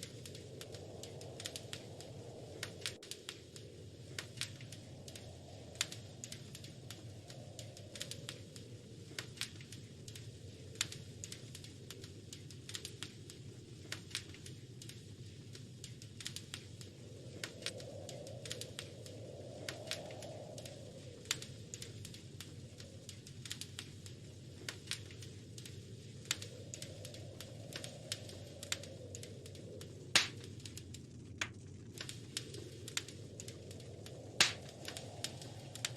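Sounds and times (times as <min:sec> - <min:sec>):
fire crackling and popping: 0:00.0 - 0:35.9
flames rushing: 0:00.0 - 0:35.9.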